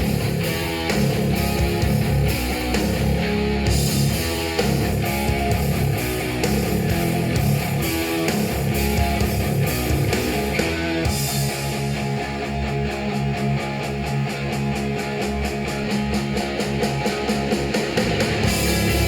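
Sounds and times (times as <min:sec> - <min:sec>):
guitar music through speaker: 0:00.0 - 0:19.0.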